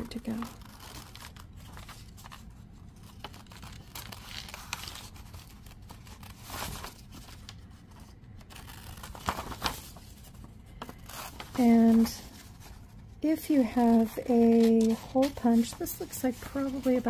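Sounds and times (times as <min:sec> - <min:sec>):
paper rustling: 0:00.0 - 0:17.0.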